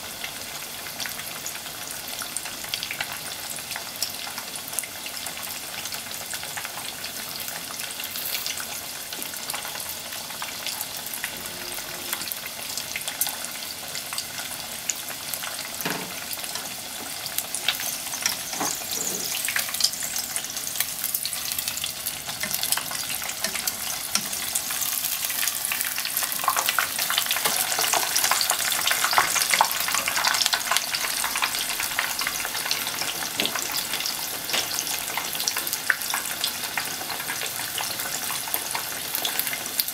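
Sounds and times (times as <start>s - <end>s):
cutlet sizzling in hot oil: 0.0s - 39.9s.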